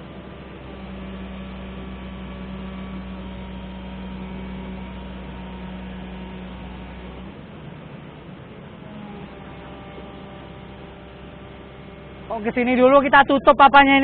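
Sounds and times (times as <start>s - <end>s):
hoist motor humming: 0.0s - 13.7s.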